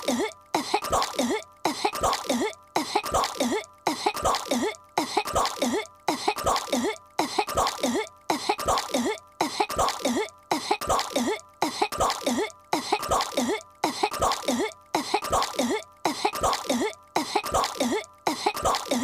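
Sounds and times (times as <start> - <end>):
cartoon girl coughing and croaking: 0.0 - 19.0.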